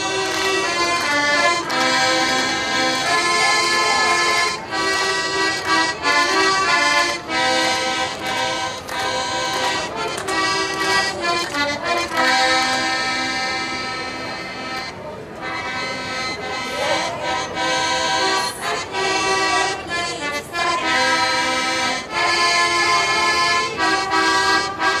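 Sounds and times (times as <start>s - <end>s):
accordion playing folk tune: 0.0s - 25.0s.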